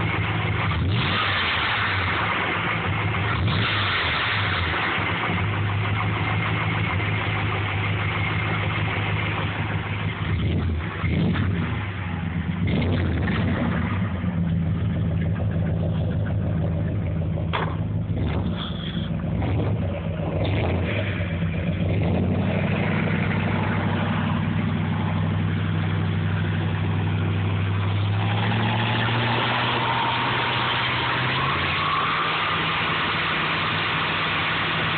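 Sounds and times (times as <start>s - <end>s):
engine exhaust rumbling: 0.0s - 34.9s.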